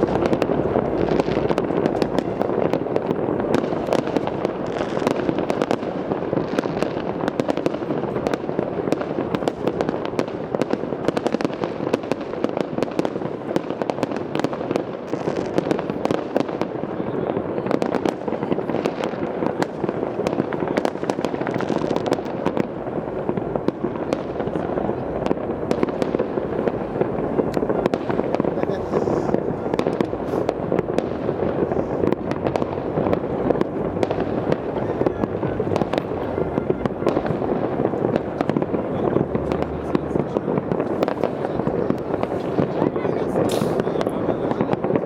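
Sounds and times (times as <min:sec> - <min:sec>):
fireworks and firecrackers banging: 0:00.0 - 0:45.0.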